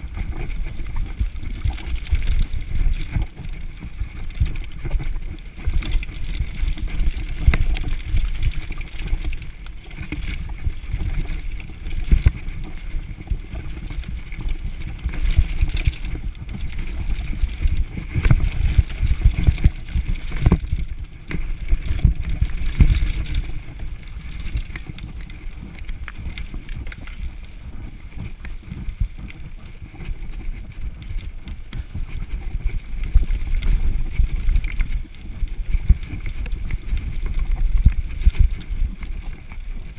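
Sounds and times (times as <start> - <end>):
bike rattling over bumps: 0.0 - 39.9
bike tyres rolling on trail: 0.0 - 39.9
wind buffeting microphone: 0.0 - 39.9.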